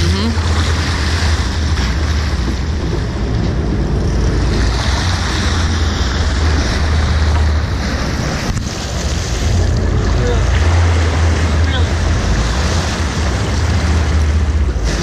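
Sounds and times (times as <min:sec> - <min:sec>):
boat engine low rumble: 0:00.0 - 0:15.0
water splashing against boat hull: 0:00.0 - 0:15.0
wind buffeting microphone: 0:00.0 - 0:15.0.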